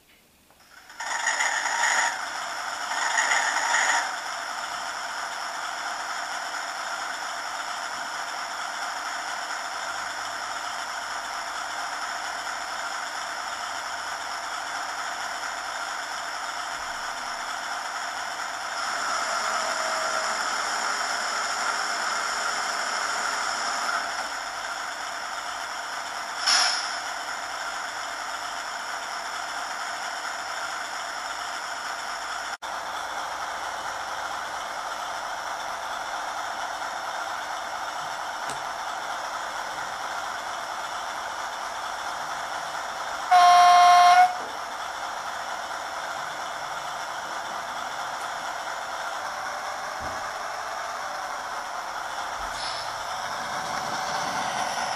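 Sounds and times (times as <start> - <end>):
model locomotive diesel engine sound: 0.1 - 54.9.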